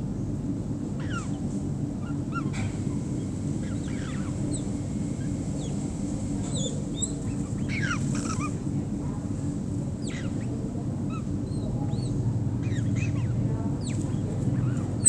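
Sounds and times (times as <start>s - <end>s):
steady low rumble: 0.0s - 15.0s
birds whistling: 1.0s - 8.8s, 9.9s - 15.0s.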